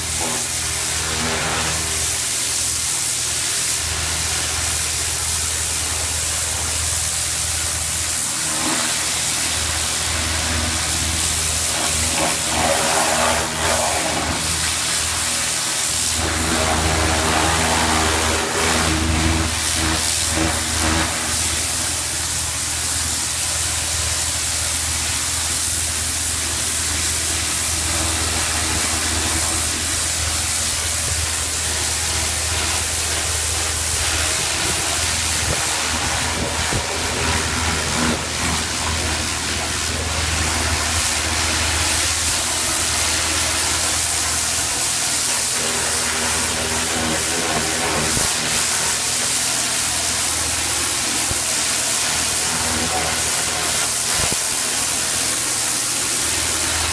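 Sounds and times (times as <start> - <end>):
pressure washer motor hum: 0.0 - 56.9
water jet spraying on concrete: 0.0 - 56.9.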